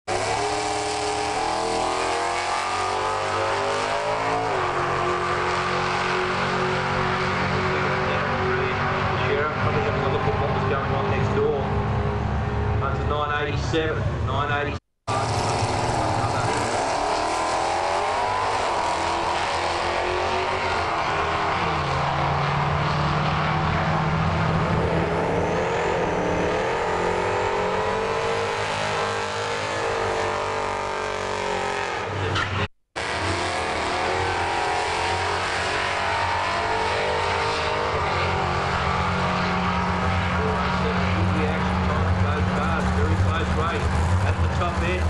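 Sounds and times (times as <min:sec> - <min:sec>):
drag racing car engines: 0:00.0 - 0:45.0.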